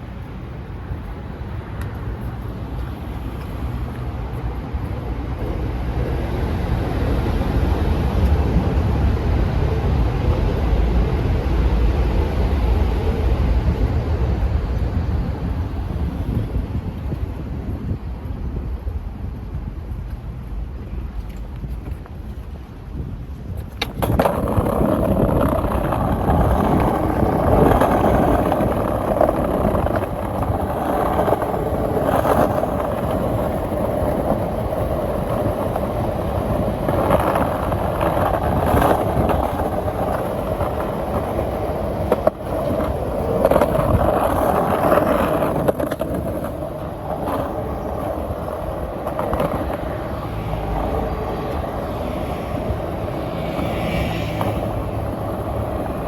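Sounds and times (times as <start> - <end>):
skateboard wheels rolling on pavement: 0.0 - 56.0.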